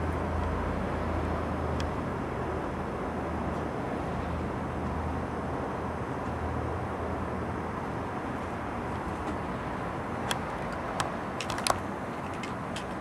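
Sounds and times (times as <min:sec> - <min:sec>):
distant street traffic rumble: 0:00.0 - 0:13.0.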